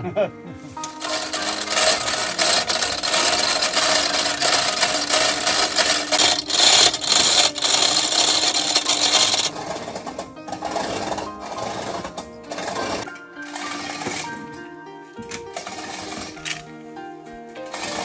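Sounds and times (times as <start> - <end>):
chain hoist ratchet clattering: 0.8 - 14.6, 15.4 - 16.6, 17.6 - 18.0.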